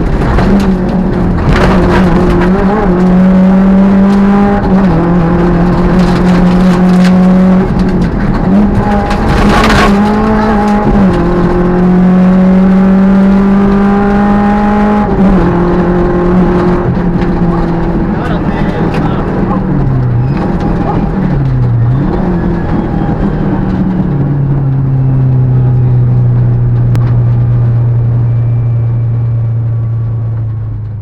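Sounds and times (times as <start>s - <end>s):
rally car engine under load: 0.0s - 31.0s.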